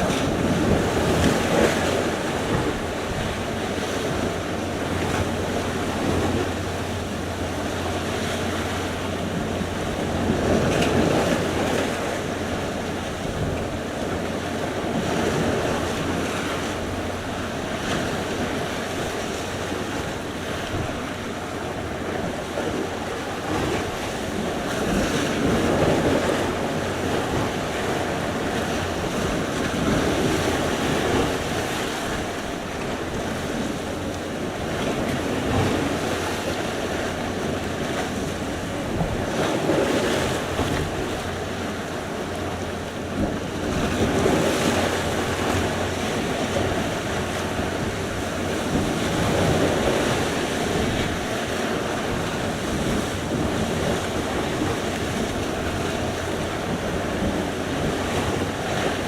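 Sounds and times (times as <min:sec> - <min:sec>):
waves breaking on shore: 0:00.0 - 0:59.0
wind noise on microphone: 0:00.0 - 0:59.0.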